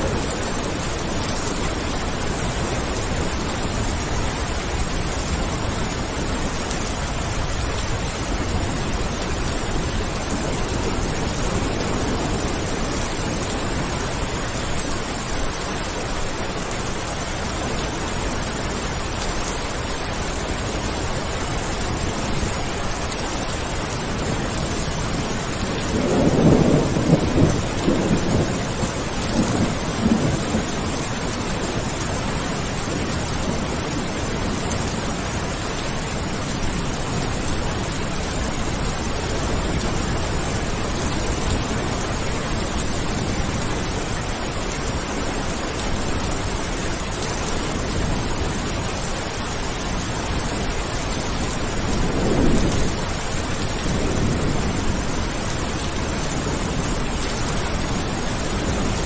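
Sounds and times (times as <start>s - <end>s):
steady rain: 0.0s - 59.0s
thunder rumbling: 0.0s - 59.0s.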